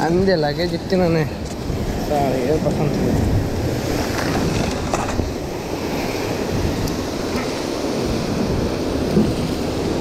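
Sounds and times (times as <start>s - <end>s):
surf breaking on rocky shore: 0.0s - 10.0s
wind rumbling on microphone: 0.0s - 10.0s.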